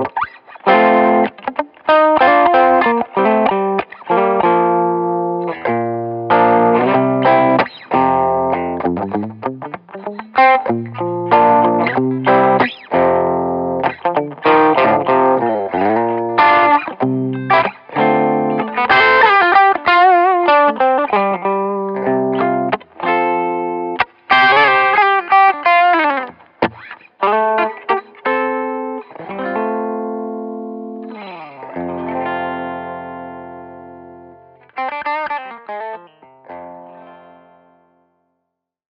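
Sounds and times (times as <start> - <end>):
backing track with bass line: 0.0 - 34.6
electric guitar playing lead lines: 0.0 - 38.2.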